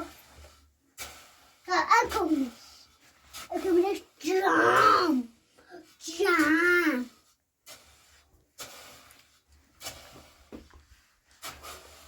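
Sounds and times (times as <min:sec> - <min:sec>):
hand scraping soil: 0:00.0 - 0:12.0.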